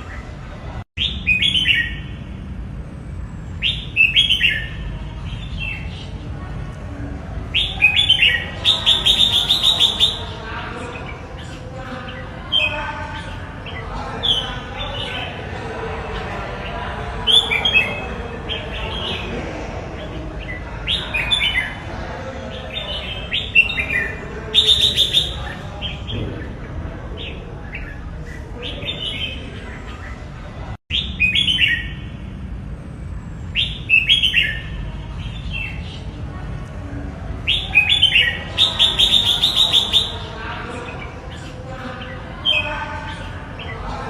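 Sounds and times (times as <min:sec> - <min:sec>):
bird singing warbling phrases: 0:00.0 - 0:02.4, 0:03.5 - 0:32.2, 0:33.4 - 0:44.0.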